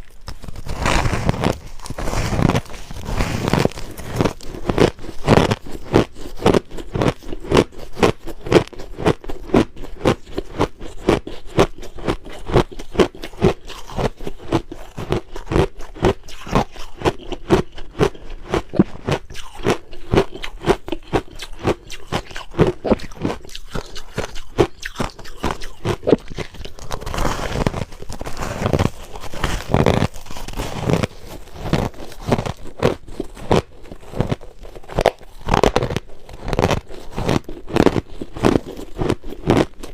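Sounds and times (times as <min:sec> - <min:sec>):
crunching of chewed ice: 0:00.0 - 0:39.9.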